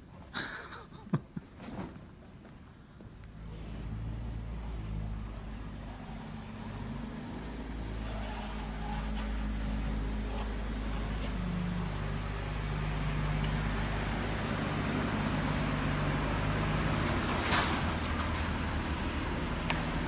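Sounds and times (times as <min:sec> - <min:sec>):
car engine running: 0:03.4 - 0:20.0.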